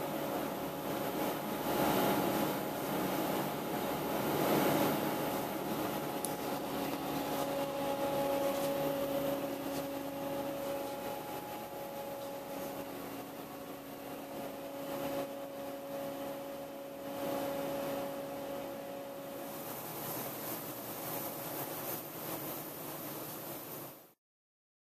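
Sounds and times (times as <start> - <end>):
electric machinery hum: 0.0 - 24.2.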